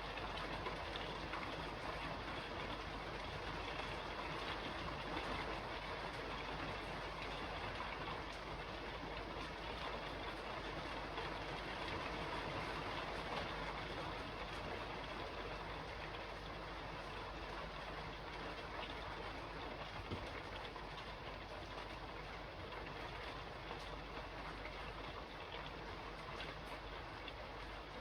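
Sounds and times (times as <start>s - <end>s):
rain falling on a roof: 0.0s - 28.0s.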